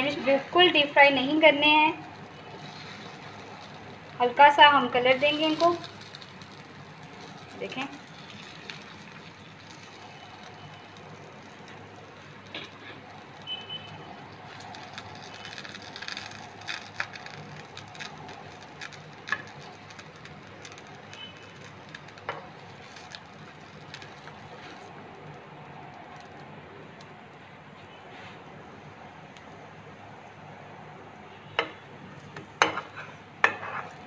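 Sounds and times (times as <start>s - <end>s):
bread sizzling in frying pan: 0.0s - 27.6s, 31.6s - 34.0s.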